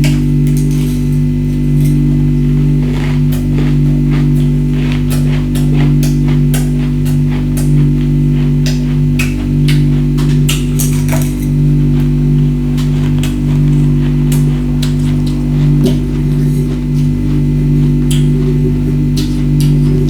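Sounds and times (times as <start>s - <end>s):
loud steady low hum: 0.0s - 20.0s.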